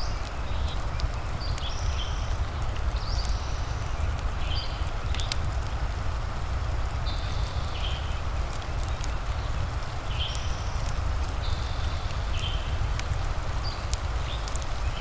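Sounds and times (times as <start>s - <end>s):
rain hiss: 0.0s - 15.0s
wood fire crackling: 0.0s - 15.0s.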